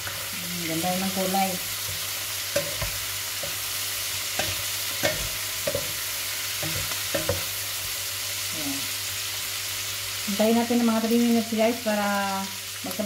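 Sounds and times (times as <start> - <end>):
stir-fry sizzling in a pan: 0.0 - 13.0.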